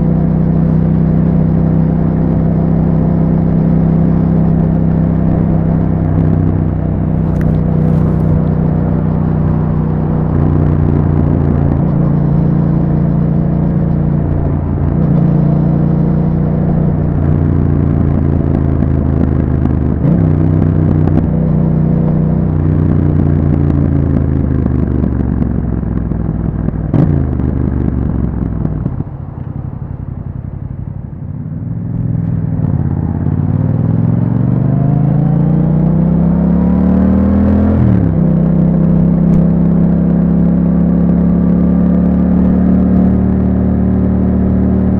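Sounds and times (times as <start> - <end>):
motorcycle engine: 0.0 - 44.9.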